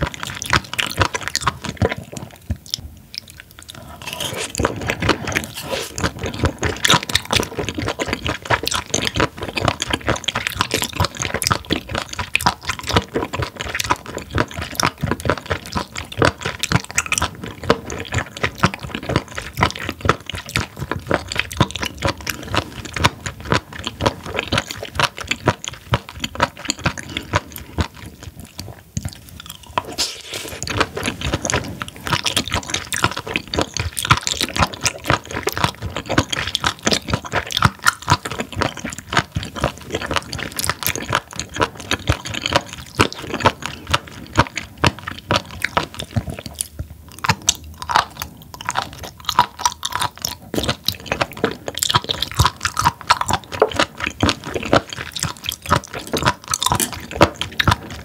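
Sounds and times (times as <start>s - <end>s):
wet crunchy chewing: 0.0s - 58.0s.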